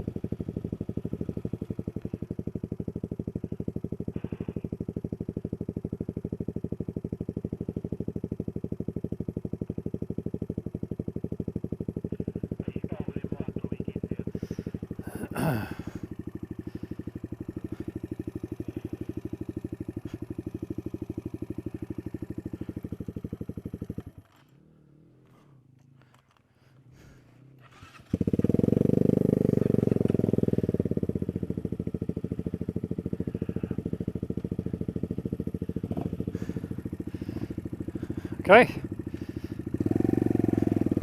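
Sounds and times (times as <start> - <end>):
motorcycle engine idling: 0.0 - 41.0
motorcycle engine starting: 0.0 - 41.0.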